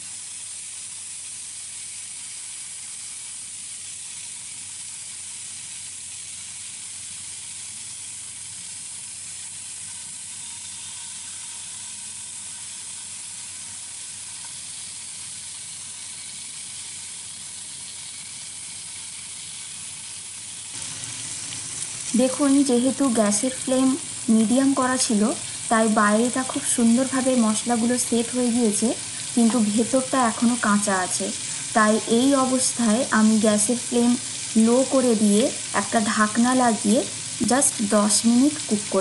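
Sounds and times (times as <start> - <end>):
kebabs sizzling in frying pan: 0.0 - 39.0.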